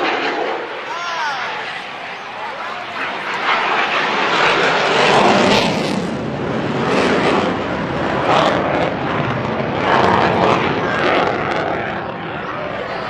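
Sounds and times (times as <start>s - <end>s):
airplane flying over: 0.0s - 13.0s.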